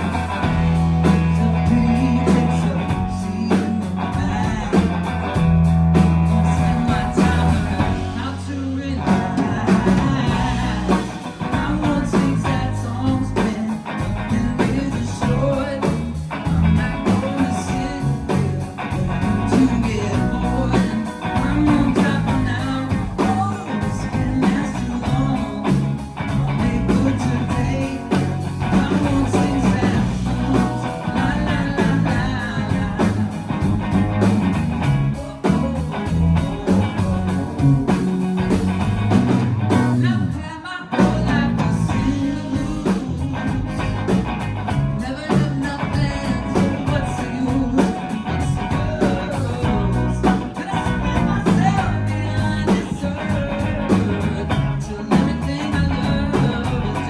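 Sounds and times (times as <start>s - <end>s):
person singing: 0.0s - 57.0s
pop-rock band playing: 0.0s - 57.0s.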